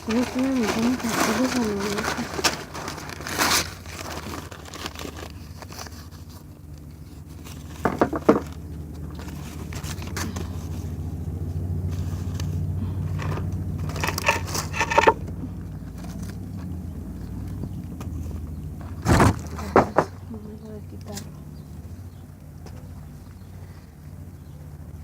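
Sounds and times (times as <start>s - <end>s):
crackling and scraping: 0.0s - 20.3s
steady low hum: 0.0s - 25.0s.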